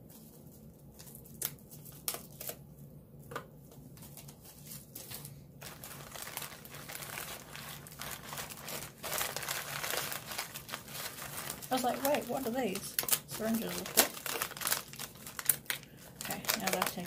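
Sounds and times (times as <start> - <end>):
plastic packaging crinkling: 0.0 - 2.8, 3.8 - 17.0.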